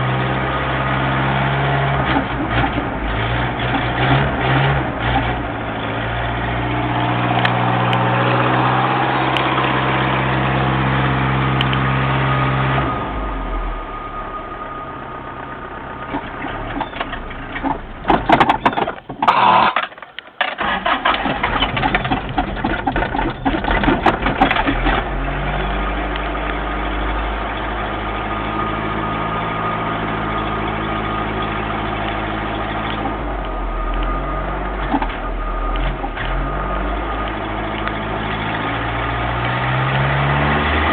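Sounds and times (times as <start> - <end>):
truck engine running: 0.0 - 19.7, 20.6 - 40.9.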